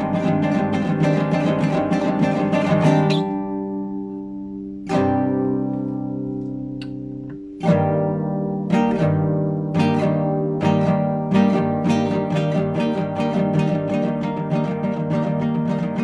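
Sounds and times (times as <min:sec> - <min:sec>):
classical guitar playing: 0:00.0 - 0:16.0.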